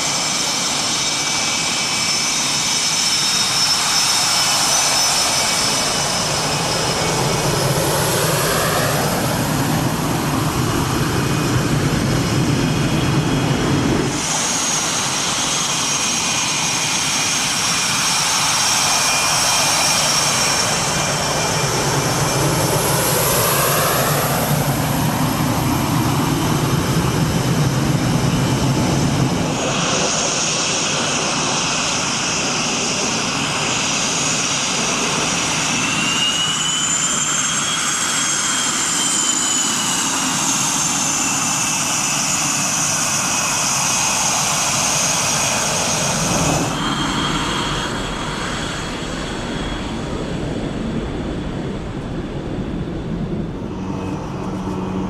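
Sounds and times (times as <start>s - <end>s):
jet engines whining and rumbling: 0.0s - 55.0s.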